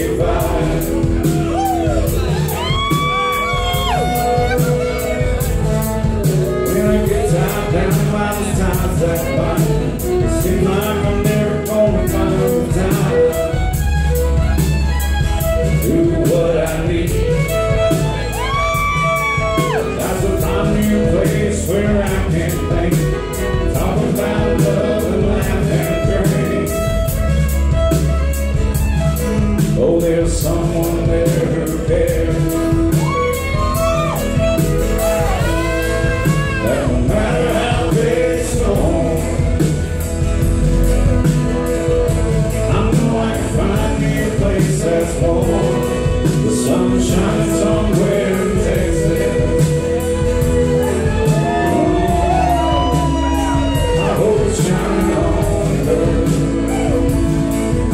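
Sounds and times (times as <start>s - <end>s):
man singing: 0.0s - 28.0s, 29.2s - 40.6s, 41.2s - 57.9s
acoustic guitar: 0.0s - 57.9s
bass: 0.0s - 57.9s
drum beat: 0.0s - 57.9s
pedal steel guitar: 0.0s - 57.9s.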